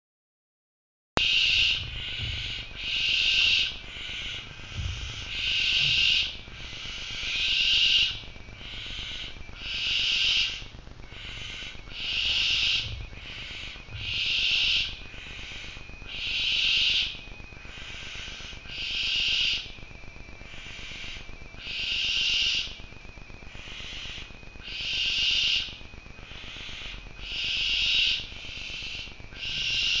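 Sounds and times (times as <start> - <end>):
young owls hissing: 1.2 - 19.7, 20.5 - 22.8, 23.6 - 25.7, 26.3 - 30.0.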